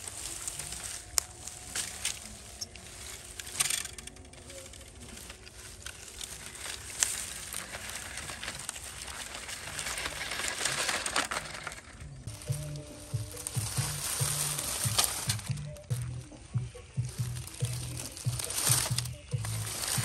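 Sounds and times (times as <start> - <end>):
dry leaves crackling under wheels: 0.0 - 20.0.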